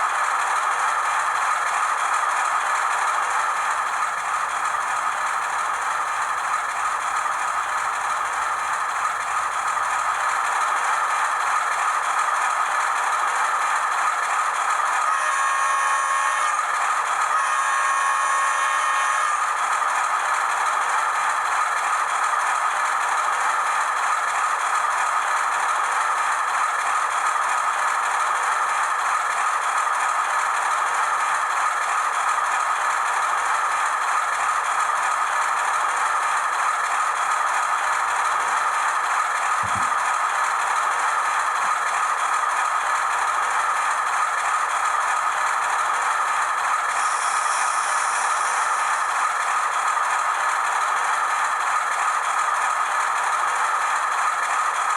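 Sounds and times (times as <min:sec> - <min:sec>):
model train rattling on track: 0:00.0 - 0:54.9.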